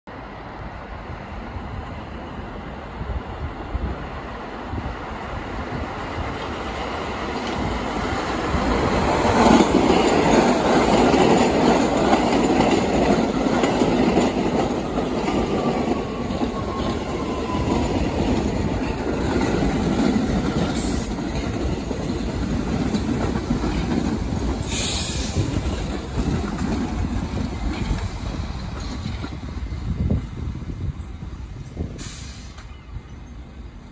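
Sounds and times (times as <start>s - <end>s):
train wheels on rails: 0.1s - 33.9s.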